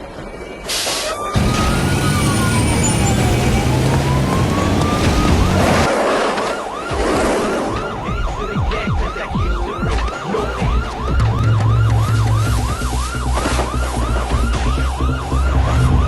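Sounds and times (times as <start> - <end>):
emergency vehicle siren: 0.0 - 16.0.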